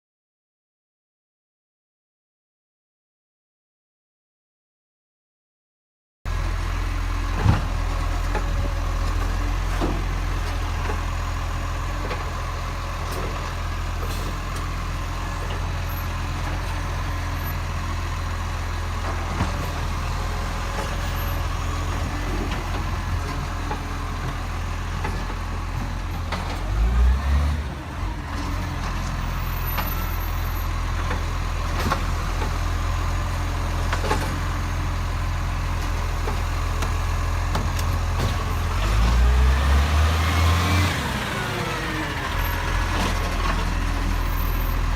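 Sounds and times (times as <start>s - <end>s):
garbage truck engine rumbling: 6.3s - 44.9s.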